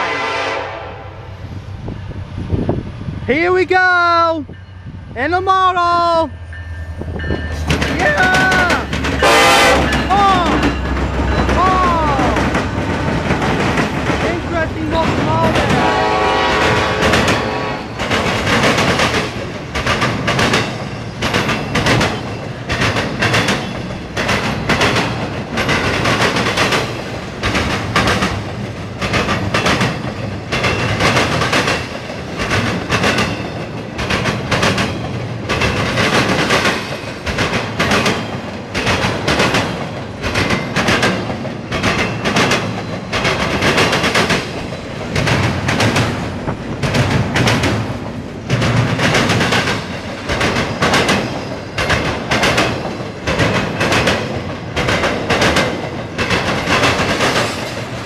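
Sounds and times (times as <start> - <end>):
train rumble and rattle: 0.0 - 58.0
train wheels clacking over rail joints: 7.2 - 58.0.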